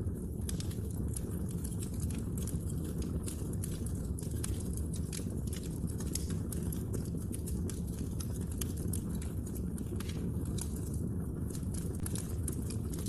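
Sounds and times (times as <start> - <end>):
logs crackling and popping: 0.0 - 13.0
low rumble of fire: 0.0 - 13.0.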